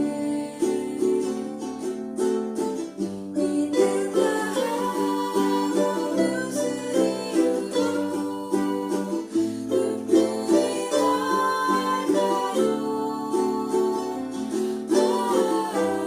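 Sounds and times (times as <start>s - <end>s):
ukulele ensemble playing: 0.0s - 16.0s.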